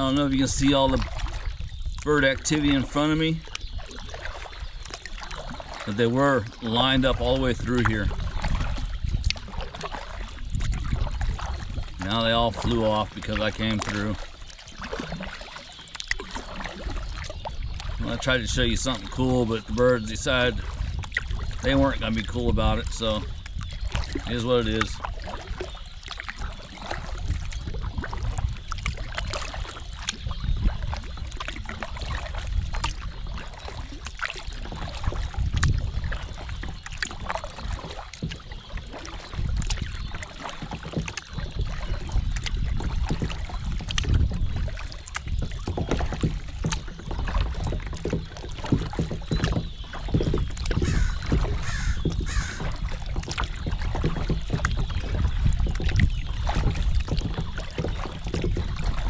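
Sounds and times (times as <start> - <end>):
birds calling: 0.0 - 59.0
water rushing: 0.0 - 59.0
wind: 0.0 - 59.0.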